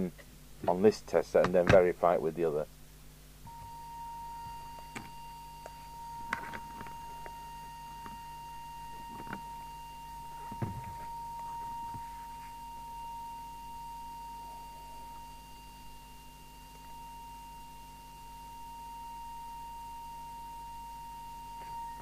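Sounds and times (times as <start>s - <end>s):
steady test tone: 0.0s - 22.0s.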